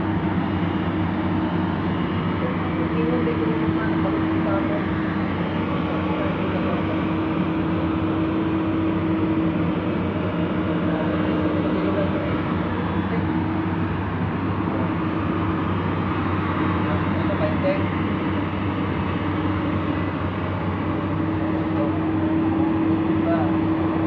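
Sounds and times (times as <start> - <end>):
diesel engine running: 0.0 - 24.0
steady whine: 0.0 - 24.0.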